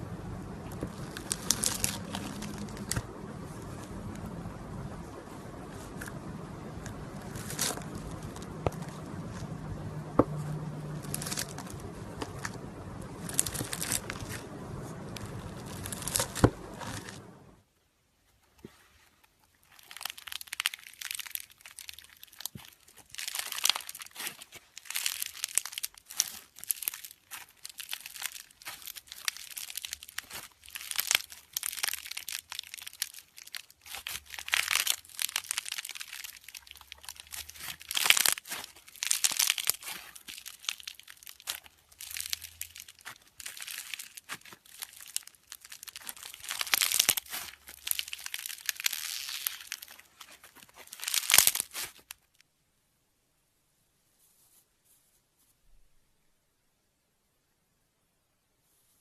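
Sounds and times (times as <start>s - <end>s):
slime crackling and popping: 0.0s - 17.6s, 19.6s - 52.4s.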